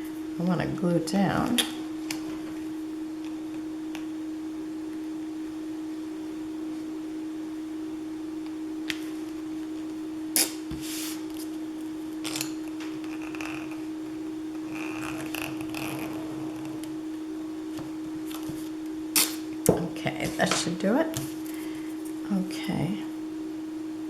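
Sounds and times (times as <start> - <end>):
steady even-pitched hum: 0.0 - 24.0.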